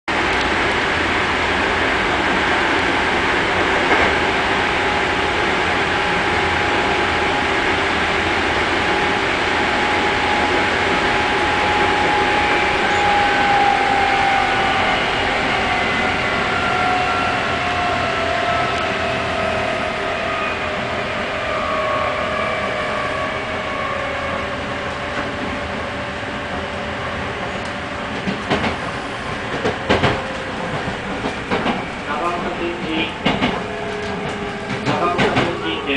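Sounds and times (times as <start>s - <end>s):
train running rumble and hiss: 0.1s - 35.9s.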